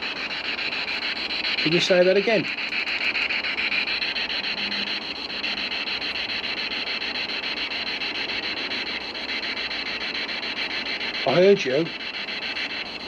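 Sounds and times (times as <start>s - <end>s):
radio static pulsing: 0.0s - 13.0s.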